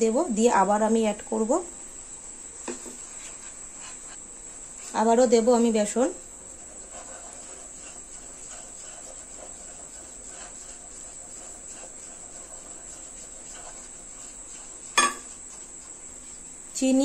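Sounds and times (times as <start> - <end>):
wooden spatula scraping: 2.6 - 17.0.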